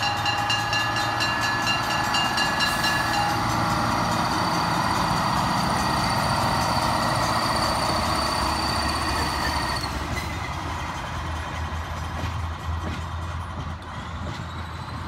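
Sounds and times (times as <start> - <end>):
diesel railcar engine running: 0.0 - 15.0
train wheels rumbling on rails: 0.0 - 15.0.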